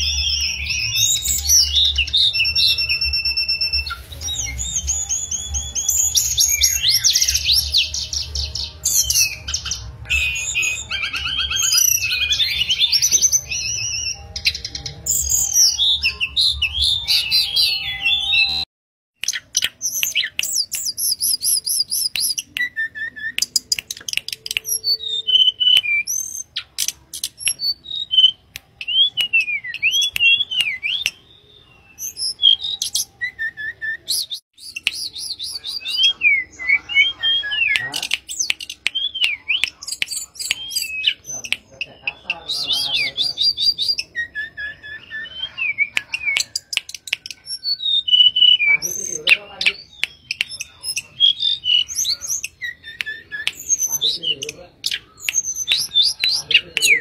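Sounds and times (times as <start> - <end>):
flycatcher singing whistled song: 0.0 - 57.0.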